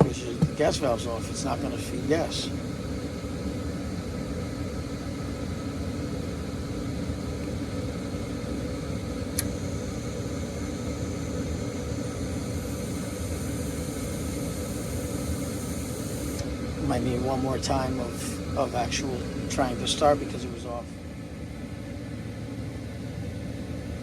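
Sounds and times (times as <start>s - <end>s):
furnace inducer motor running: 0.0s - 24.0s.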